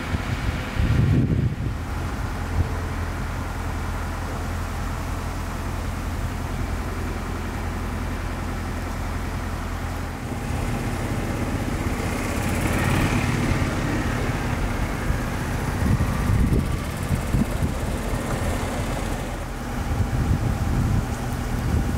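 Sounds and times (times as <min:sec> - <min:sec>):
vehicle engine running: 0:00.0 - 0:21.9.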